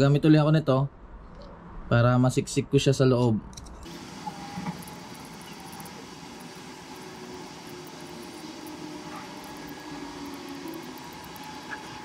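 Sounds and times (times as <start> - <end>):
mechanical background hum: 0.0 - 12.0.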